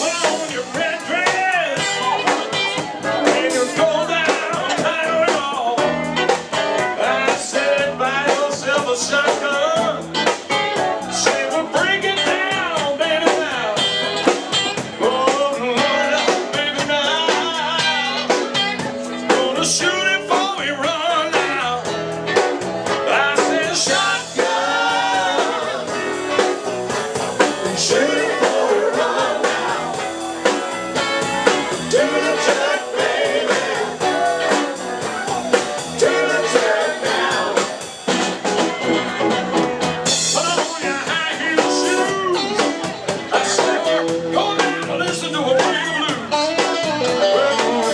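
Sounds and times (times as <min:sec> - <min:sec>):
person singing: 0:00.0 - 0:22.0, 0:22.8 - 0:30.7, 0:31.4 - 0:39.4, 0:40.0 - 0:47.9
drum kit beat: 0:00.0 - 0:47.9
electric bass: 0:00.0 - 0:47.9
electric guitar: 0:00.0 - 0:47.9.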